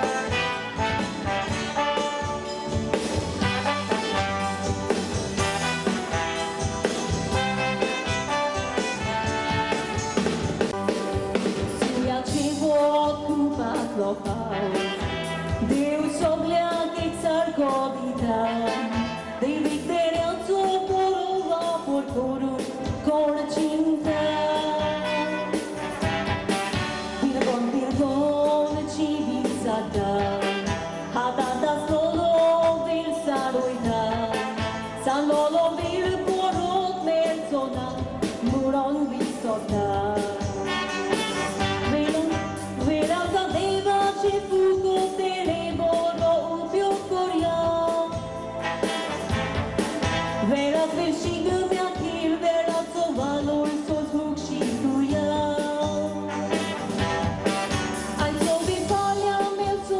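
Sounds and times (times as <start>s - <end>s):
woman singing into microphone: 0.0s - 9.6s, 11.5s - 25.8s, 26.7s - 41.0s, 41.7s - 48.6s, 50.4s - 57.1s, 58.1s - 59.9s
pop backing music: 0.0s - 59.9s.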